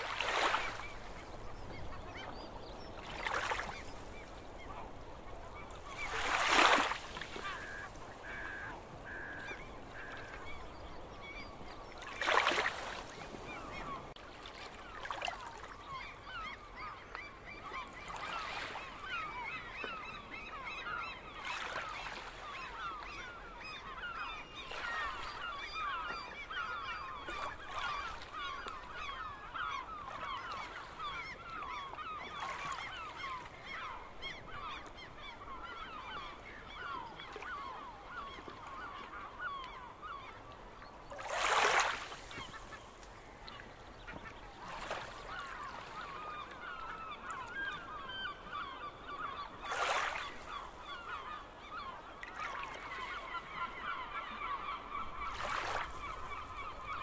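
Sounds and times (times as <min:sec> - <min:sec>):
gulls calling: 0:00.0 - 0:57.0.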